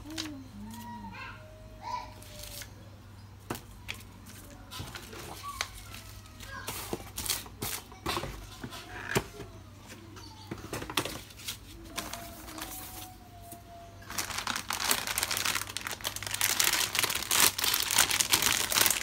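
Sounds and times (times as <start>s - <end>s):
cardboard and plastic rustling: 3.5s - 19.0s.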